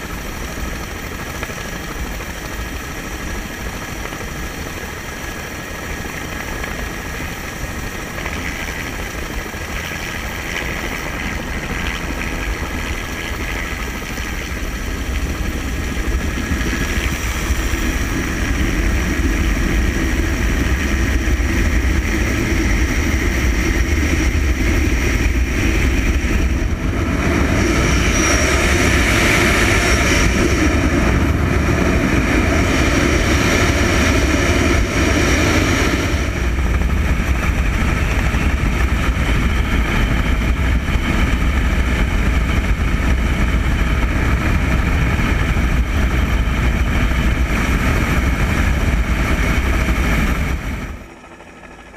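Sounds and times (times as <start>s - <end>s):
helicopter flying: 0.0s - 51.9s.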